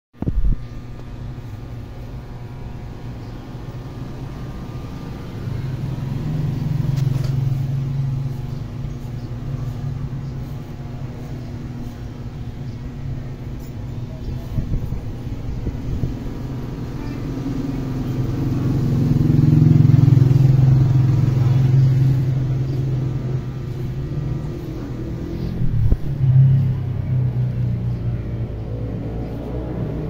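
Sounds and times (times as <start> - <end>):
low motor hum: 0.2 - 30.0.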